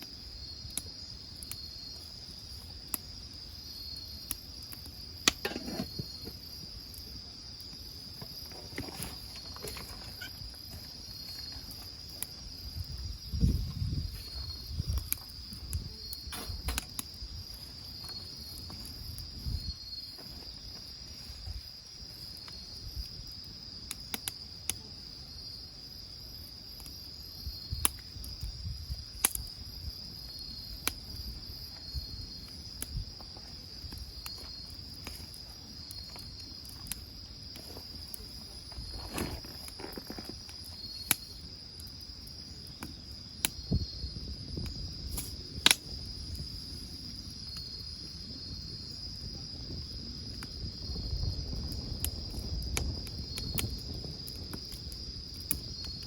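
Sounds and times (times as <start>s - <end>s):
crickets trilling: 0.0s - 56.0s
wood fire popping and crackling: 0.0s - 56.0s.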